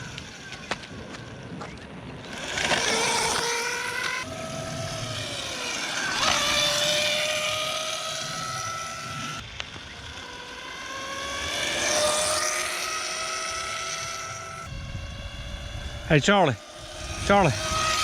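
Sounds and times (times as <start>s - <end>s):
electric dirt bike motor whining: 0.0s - 18.0s.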